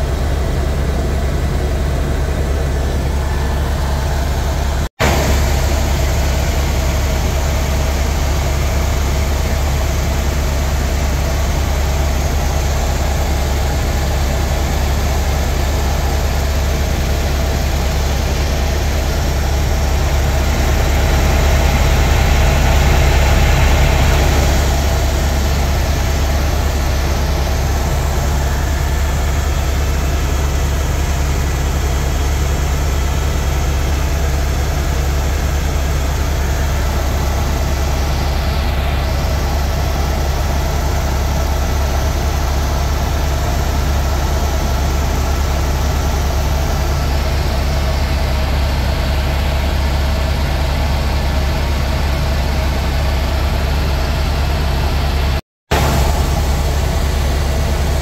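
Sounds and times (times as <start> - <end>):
helicopter rotor and turbine drone: 0.0 - 58.0.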